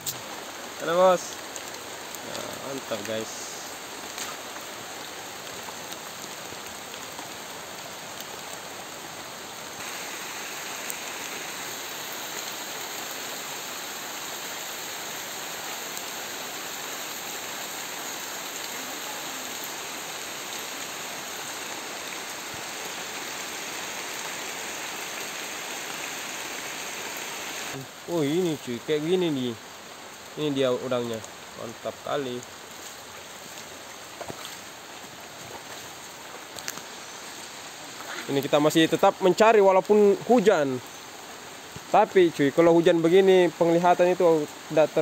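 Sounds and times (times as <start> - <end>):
rain falling on river: 0.0 - 45.0.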